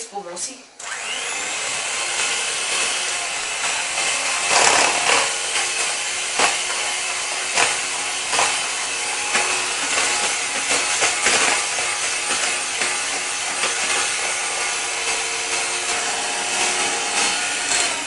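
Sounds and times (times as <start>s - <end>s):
electric mixer whirring: 0.8s - 18.0s.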